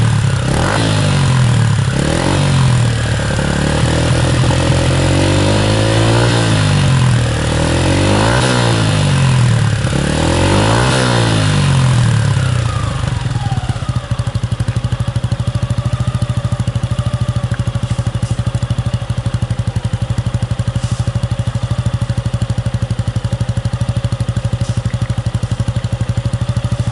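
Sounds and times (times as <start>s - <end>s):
motorcycle engine idling: 0.0s - 26.9s
motorcycle engine revving: 0.0s - 26.9s.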